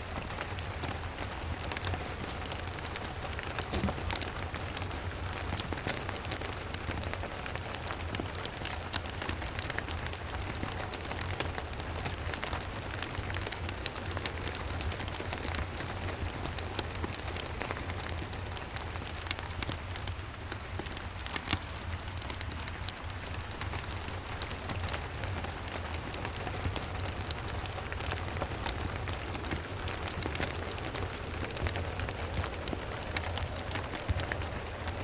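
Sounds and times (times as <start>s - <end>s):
steady rain: 0.0s - 35.0s
wood fire crackling: 0.0s - 35.0s.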